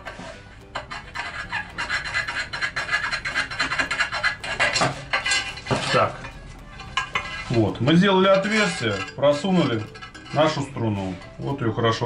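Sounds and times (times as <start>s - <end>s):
wire saw rasping on tile: 0.0s - 11.8s.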